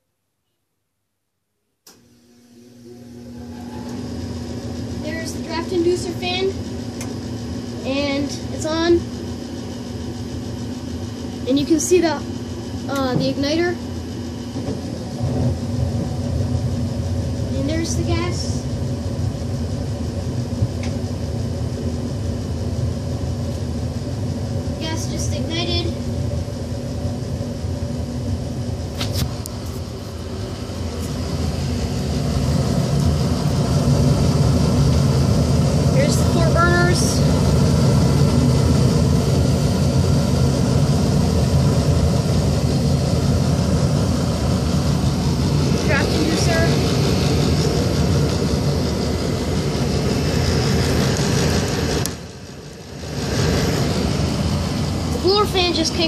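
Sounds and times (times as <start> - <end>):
gas furnace humming: 1.7 - 56.0.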